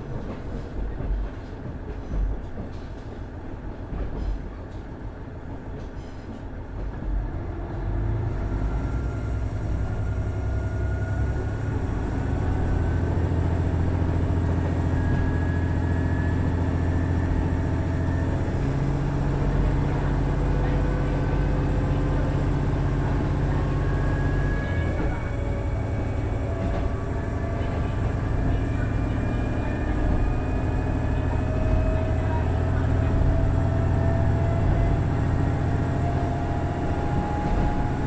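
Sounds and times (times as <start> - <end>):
diesel railcar running: 0.0 - 38.0
diesel engine under power: 7.4 - 38.0.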